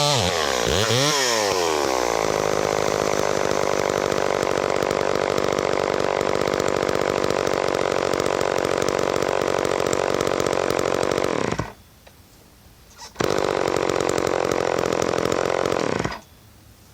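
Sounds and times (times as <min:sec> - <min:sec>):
chainsaw running: 0:00.0 - 0:11.8, 0:13.2 - 0:16.2.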